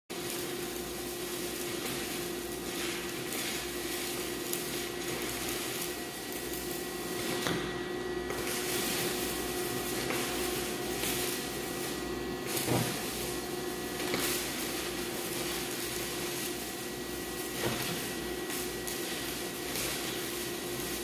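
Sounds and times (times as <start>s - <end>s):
steady hum: 0.1s - 21.0s
welding arc hissing: 0.1s - 21.0s.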